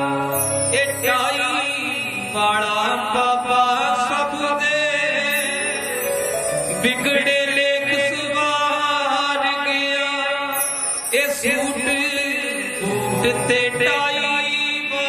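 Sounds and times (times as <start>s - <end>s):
man singing: 0.0s - 6.1s, 6.7s - 15.0s
harmonium playing: 0.0s - 15.0s.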